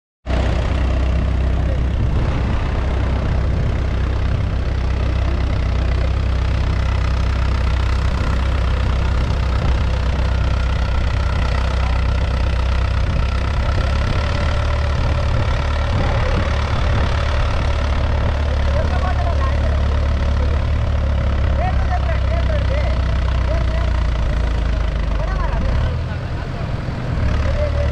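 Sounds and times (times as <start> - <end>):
tractor diesel engine running: 0.2 - 27.9.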